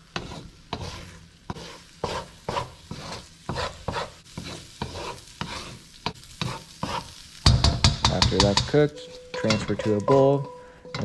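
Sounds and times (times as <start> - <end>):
eggs sizzling in oil: 0.0 - 11.0
spatula scraping a wok: 0.0 - 11.0.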